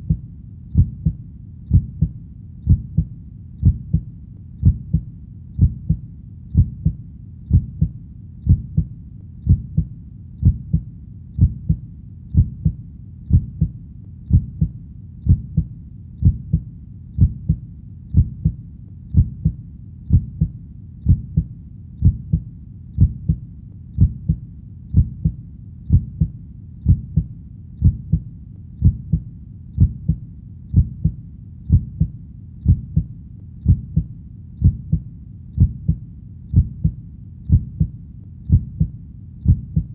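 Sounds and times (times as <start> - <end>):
faint low rumble: 0.0 - 39.9
heartbeat double thump: 0.8 - 6.0, 6.6 - 11.8, 12.4 - 14.7, 15.3 - 20.5, 21.1 - 22.4, 23.0 - 23.4, 24.0 - 26.3, 26.9 - 28.2, 28.8 - 29.2, 29.8 - 35.0, 35.6 - 37.9, 38.5 - 39.9.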